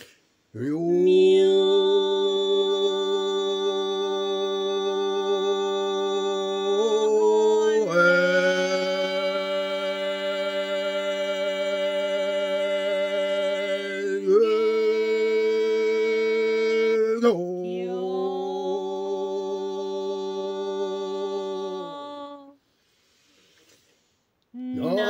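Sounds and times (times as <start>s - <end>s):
chanting voice holding notes: 0.0s - 22.6s, 24.6s - 25.0s.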